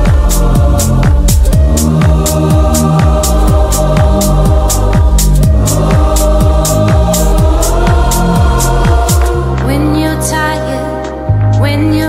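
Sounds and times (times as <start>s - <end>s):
held bass note: 0.0s - 9.8s
slow melody: 0.0s - 12.0s.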